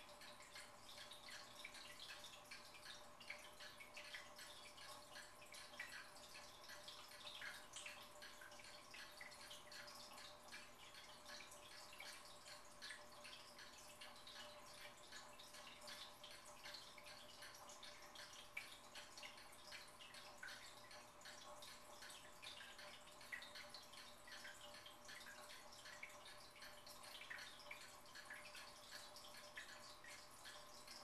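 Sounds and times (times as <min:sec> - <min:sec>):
water trickling and dripping: 0:00.0 - 0:31.0.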